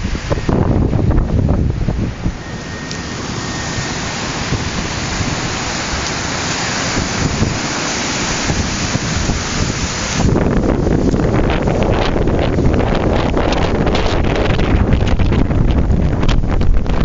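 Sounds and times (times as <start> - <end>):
wind and rain rushing: 0.0 - 17.0
wind buffeting microphone: 0.0 - 17.0.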